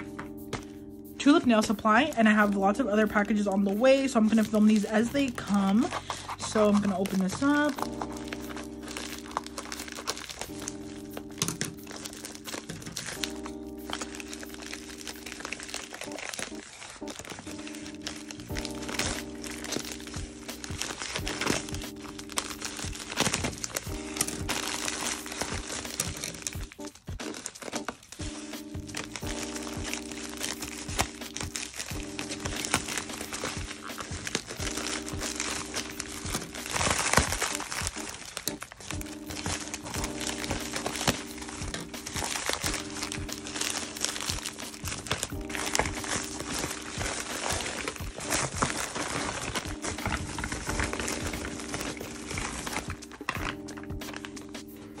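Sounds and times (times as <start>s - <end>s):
background music: 0.0s - 55.0s
packaging crinkling: 0.0s - 55.0s.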